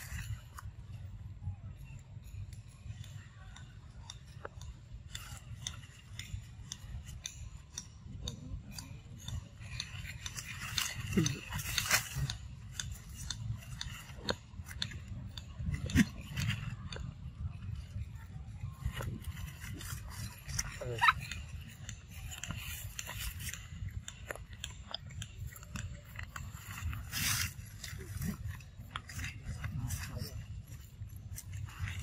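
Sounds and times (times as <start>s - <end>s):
dry leaves and twigs crackling: 0.0s - 32.0s.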